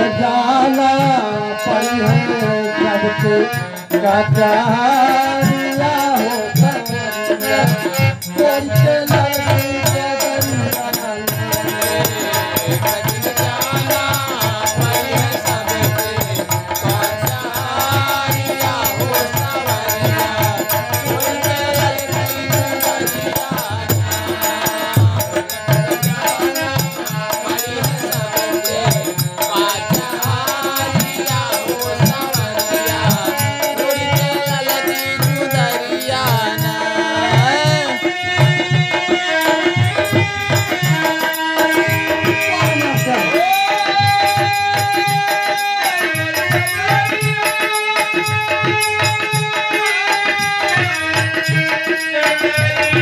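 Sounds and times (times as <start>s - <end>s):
steady drum beat: 1.0s - 53.0s.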